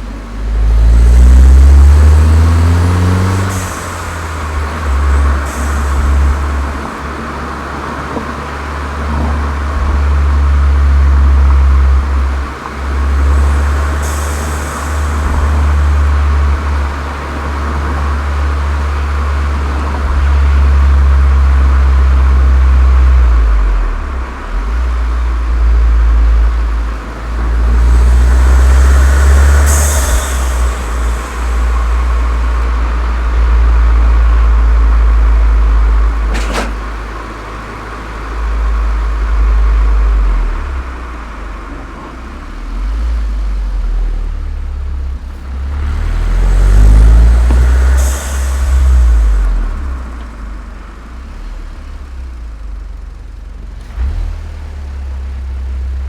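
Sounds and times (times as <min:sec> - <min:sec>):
high hiss: 0:00.0 - 0:40.4, 0:45.5 - 0:50.6
car engine droning: 0:00.0 - 0:56.0.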